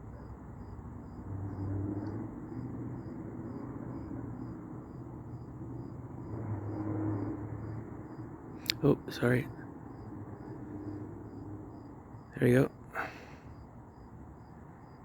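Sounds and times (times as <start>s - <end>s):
cricket chirping: 0.0s - 15.0s
distant aircraft engine droning: 0.0s - 15.0s.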